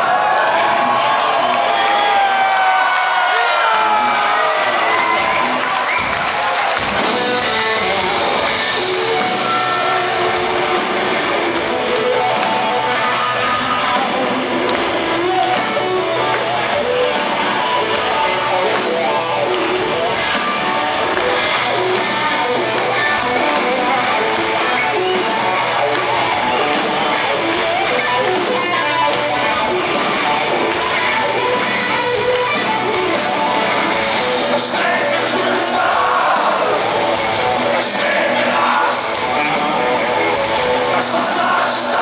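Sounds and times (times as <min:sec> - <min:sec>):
live rock band: 0:00.0 - 0:42.0.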